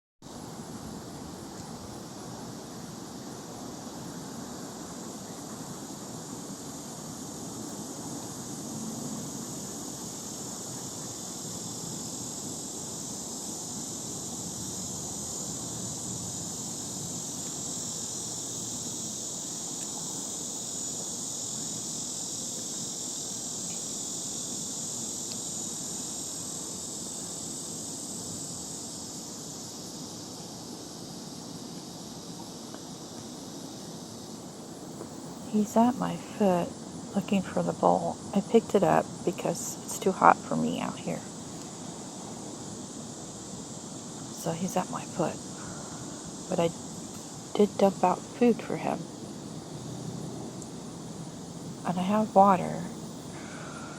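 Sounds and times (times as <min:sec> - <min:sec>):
insects droning: 0:00.2 - 0:53.9.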